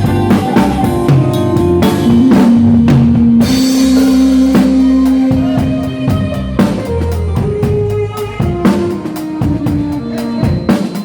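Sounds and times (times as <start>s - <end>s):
band playing: 0.0s - 11.0s
drum kit strikes: 0.0s - 11.0s.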